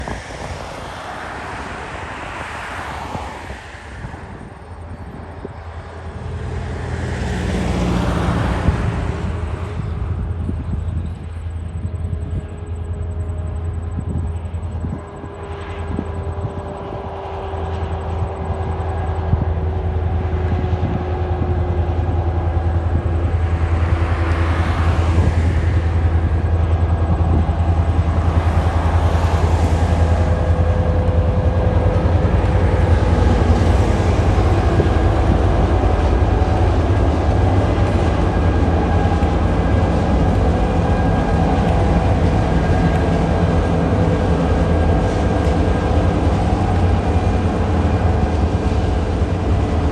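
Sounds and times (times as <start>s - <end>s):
diesel locomotive engine: 0.0s - 49.9s.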